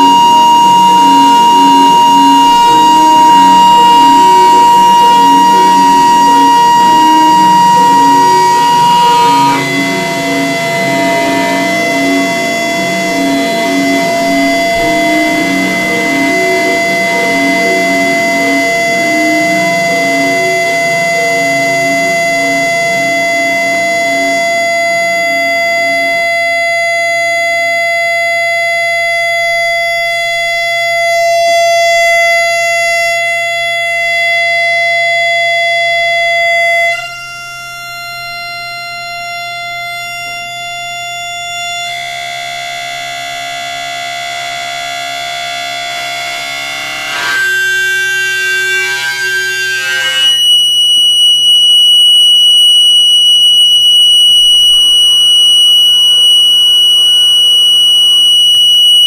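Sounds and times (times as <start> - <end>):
synthesizer drone tones: 0.0 - 59.0.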